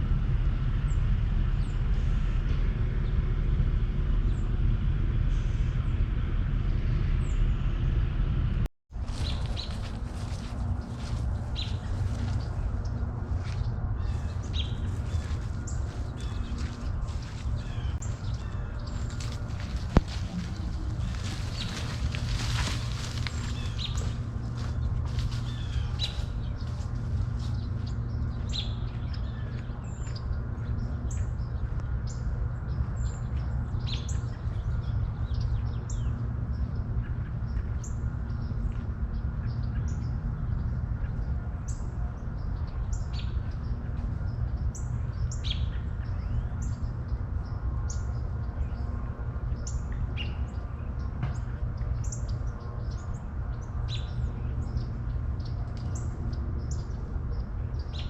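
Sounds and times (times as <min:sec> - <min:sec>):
steady low rumble: 0:00.0 - 0:58.0
songbirds chirping: 0:09.0 - 0:58.0.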